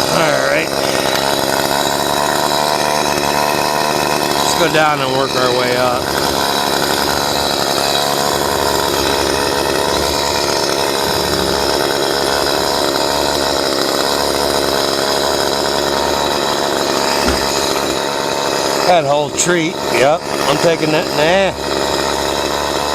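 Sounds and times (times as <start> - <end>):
chainsaw running: 0.0 - 22.9.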